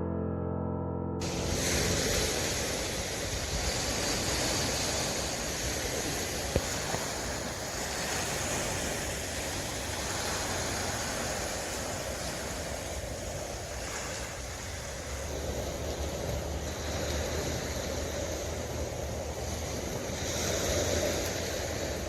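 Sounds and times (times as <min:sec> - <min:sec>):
waves washing on shore: 0:01.2 - 0:22.0.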